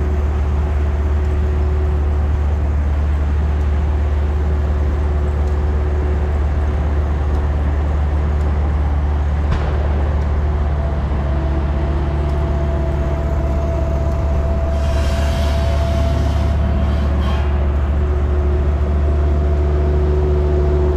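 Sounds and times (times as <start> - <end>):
sawmill rumbling and humming: 0.0 - 20.9.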